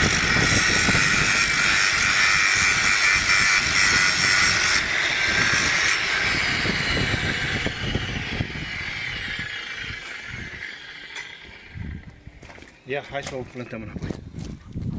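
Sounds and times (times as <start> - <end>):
angle grinder cutting steel: 0.0 - 12.1.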